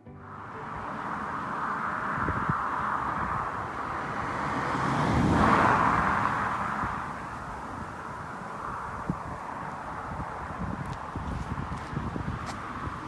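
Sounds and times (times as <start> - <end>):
car passing by: 0.1 - 13.0.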